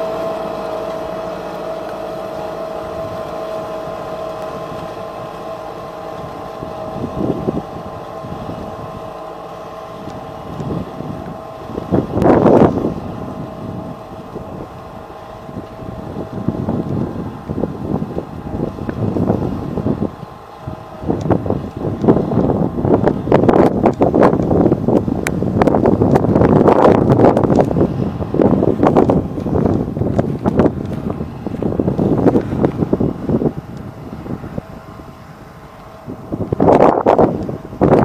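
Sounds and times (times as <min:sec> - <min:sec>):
held whine: 0:00.0 - 0:38.0
tractor engine running under load: 0:00.0 - 0:38.0
wind buffeting microphone: 0:00.0 - 0:38.0.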